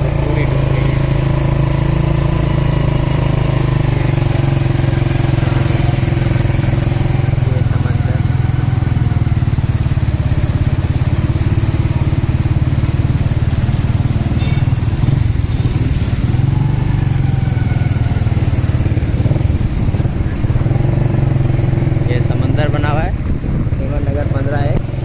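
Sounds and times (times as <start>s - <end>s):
small motorcycle engine running: 0.0s - 25.0s.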